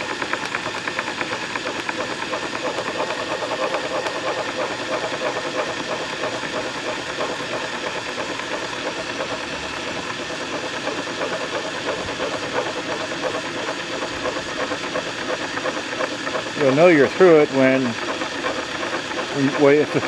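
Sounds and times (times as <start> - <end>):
drill hole saw grinding carpet: 0.0 - 20.0.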